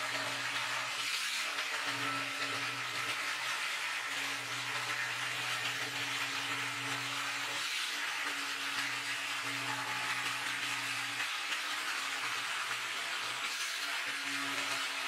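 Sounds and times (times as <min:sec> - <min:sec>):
electric jigsaw cutting: 0:00.0 - 0:15.0.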